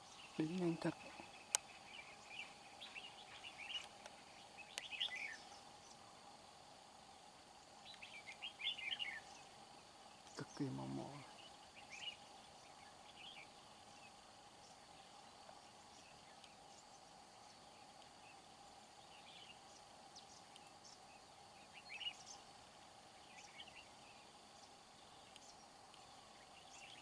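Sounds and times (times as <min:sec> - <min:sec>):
faint steady tone: 0:00.0 - 0:27.0
steady hiss: 0:00.0 - 0:27.0.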